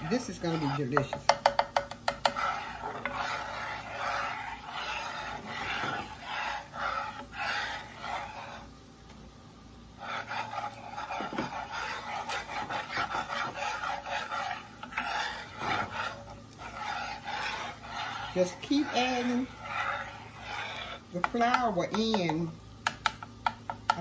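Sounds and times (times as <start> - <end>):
metal spatula scraping skillet: 0.0 - 8.7, 10.0 - 21.8.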